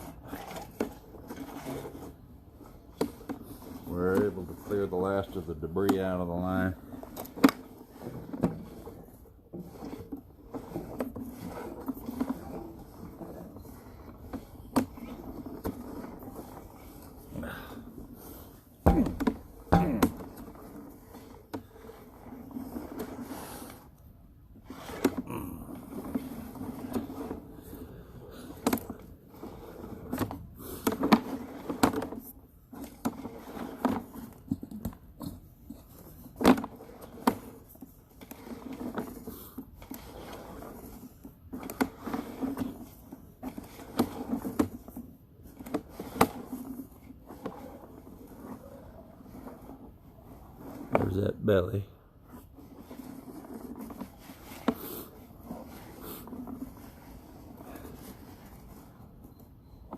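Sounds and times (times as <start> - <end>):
cable scraping and knocking in drain: 0.0 - 51.4, 52.2 - 59.9.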